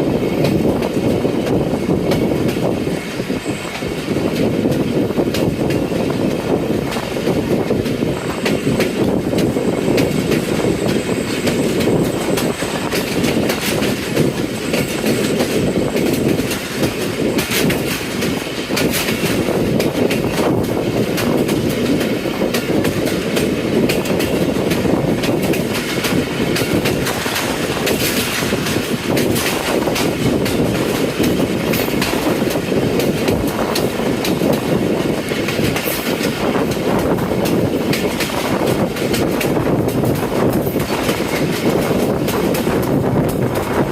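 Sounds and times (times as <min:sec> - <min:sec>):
train carriages rumbling: 0:00.0 - 0:43.9
wheels clattering over rail joints: 0:00.4 - 0:43.9.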